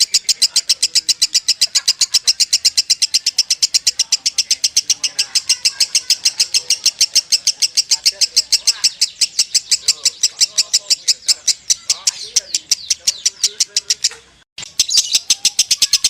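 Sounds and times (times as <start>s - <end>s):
lovebird fast chirping: 0.0s - 16.0s.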